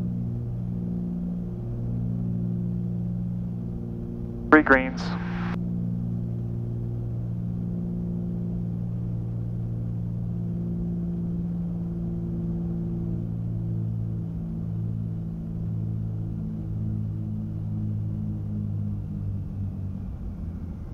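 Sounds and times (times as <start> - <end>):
aircraft engines droning: 0.2 - 20.9.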